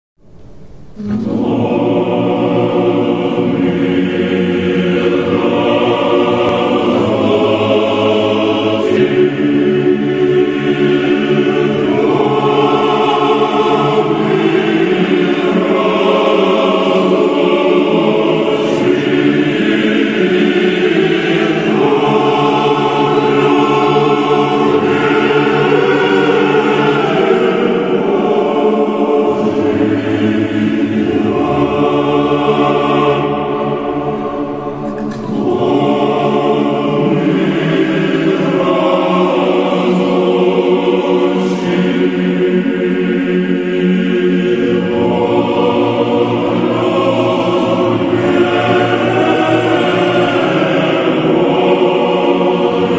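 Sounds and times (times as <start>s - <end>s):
choir singing chant: 0.2s - 52.9s.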